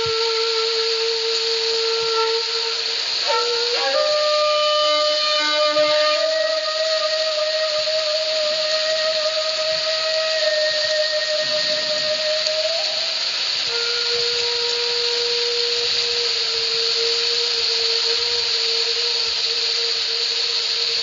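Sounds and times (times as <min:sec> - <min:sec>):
breathy flute sustained notes: 0:00.0 - 0:21.0
steady hiss: 0:00.0 - 0:21.0.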